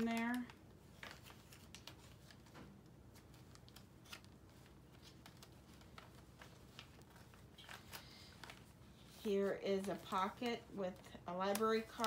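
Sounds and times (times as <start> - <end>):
paper pages turning: 0.0 - 12.0.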